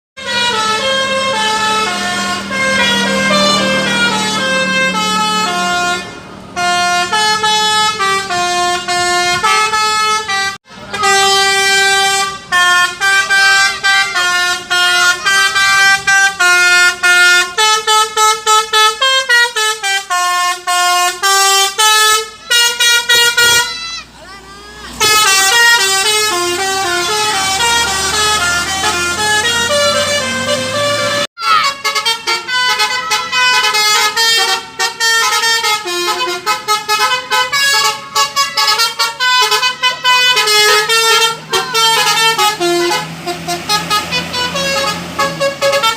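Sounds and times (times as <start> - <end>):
musical vehicle horn playing tune: 0.2 - 24.1, 24.9 - 45.9.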